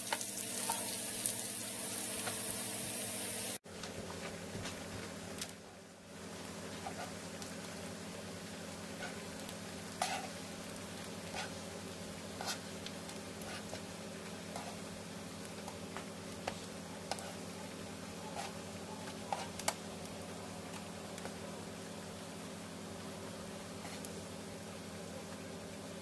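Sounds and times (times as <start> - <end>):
cooking on hot griddle: 0.0 - 26.0.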